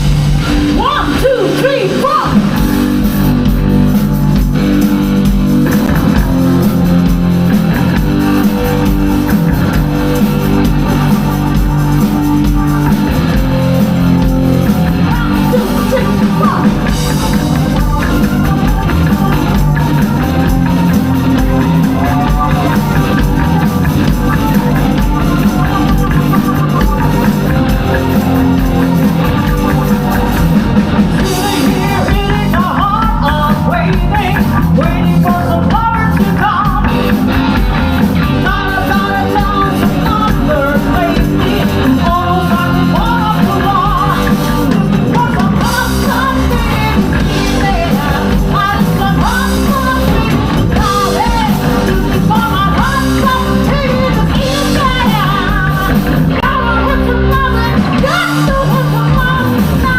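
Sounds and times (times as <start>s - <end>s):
live rock band playing: 0.0s - 59.9s
person singing: 5.6s - 59.9s.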